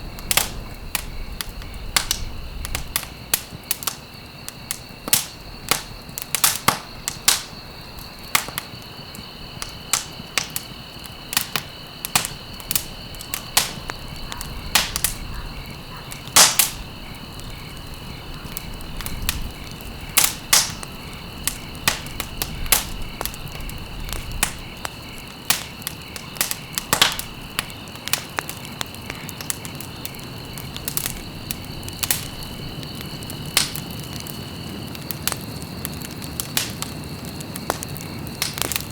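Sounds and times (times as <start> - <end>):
campfire crackling and popping: 0.0 - 38.9
insects trilling: 0.0 - 38.9.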